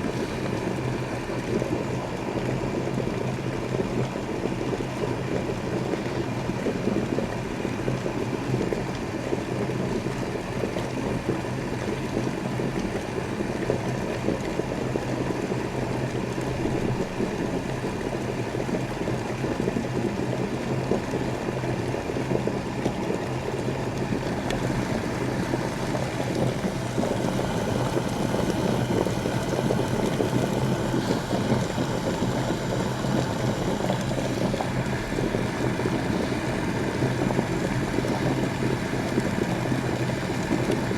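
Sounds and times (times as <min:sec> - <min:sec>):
kettle water rushing noise: 0:00.0 - 0:40.9.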